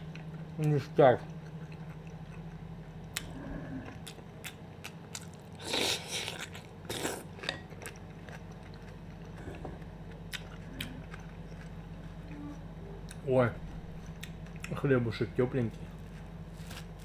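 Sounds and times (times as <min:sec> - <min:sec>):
chewing crunchy salad: 0:00.0 - 0:14.9, 0:15.7 - 0:17.0.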